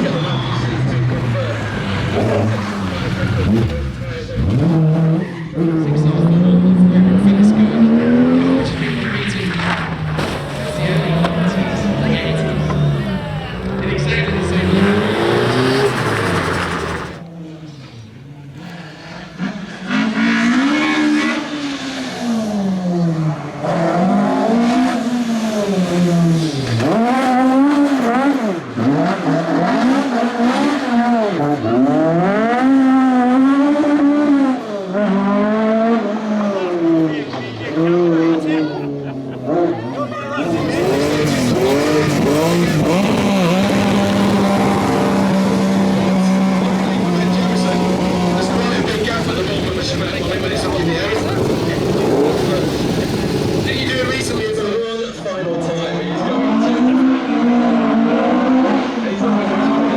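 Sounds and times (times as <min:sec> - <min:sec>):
rally car engine revving: 0:00.0 - 0:17.4, 0:18.6 - 0:59.9.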